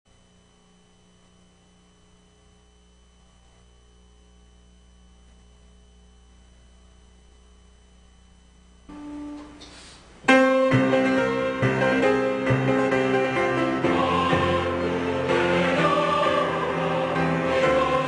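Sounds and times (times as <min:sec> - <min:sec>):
faint mains hum: 0:00.1 - 0:18.0.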